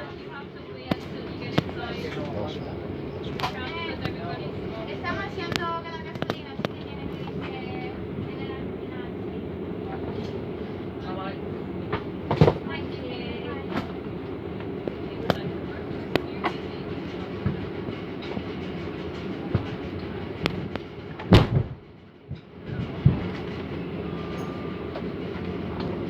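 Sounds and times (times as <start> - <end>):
steady mechanical drone: 0.0 - 26.0.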